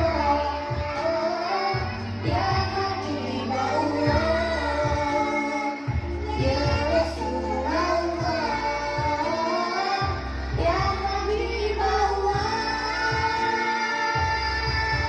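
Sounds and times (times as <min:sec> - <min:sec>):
backing track with steady beat: 0:00.0 - 0:15.0
children's choir singing: 0:00.0 - 0:15.0.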